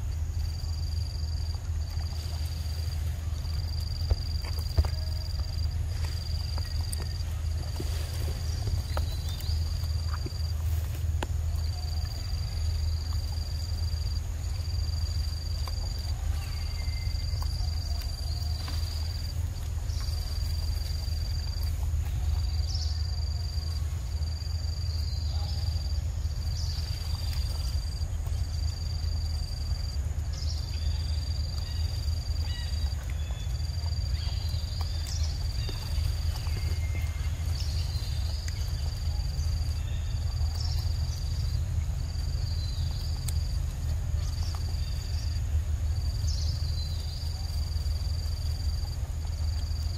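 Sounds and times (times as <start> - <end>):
monkey eating fruit clicks: 0.0 - 23.7, 30.3 - 46.6
steady low rumble: 0.0 - 49.9.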